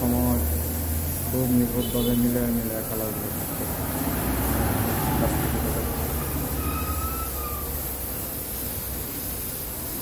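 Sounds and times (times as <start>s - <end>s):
spray gun hissing: 0.0s - 10.0s.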